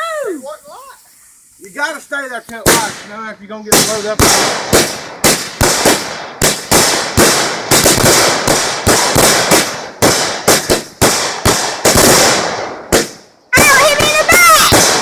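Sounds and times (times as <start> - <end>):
fireworks banging: 0.2 - 15.0.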